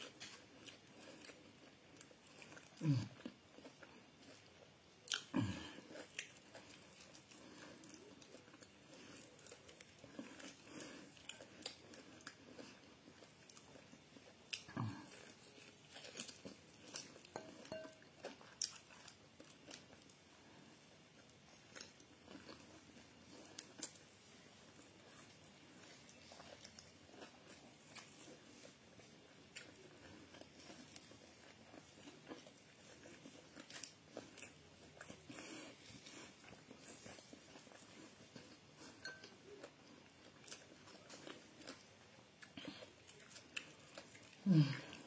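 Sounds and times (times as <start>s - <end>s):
person chewing meat: 0.0s - 45.0s.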